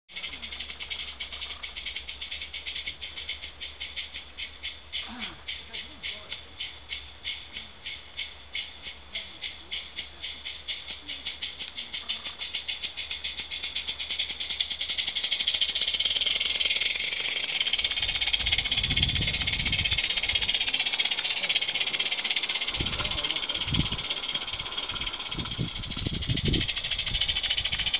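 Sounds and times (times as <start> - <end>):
steam locomotive chuffing: 0.1 - 27.9.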